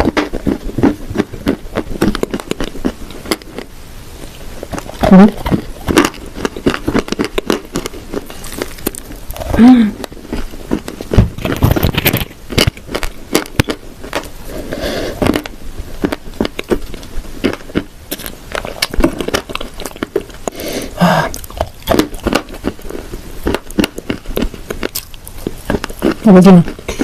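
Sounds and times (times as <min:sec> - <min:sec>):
crunching dry cookies: 0:00.0 - 0:03.7, 0:04.4 - 0:27.0
wet chewing: 0:04.6 - 0:27.0.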